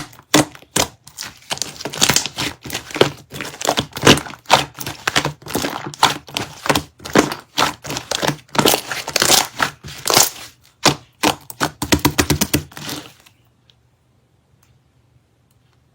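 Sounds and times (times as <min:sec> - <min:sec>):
slime squished by hand: 0:00.0 - 0:13.2.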